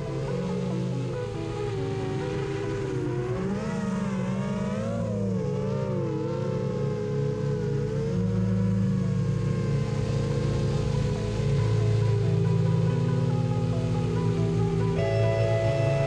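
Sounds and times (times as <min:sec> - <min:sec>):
low music notes: 0:00.0 - 0:16.0.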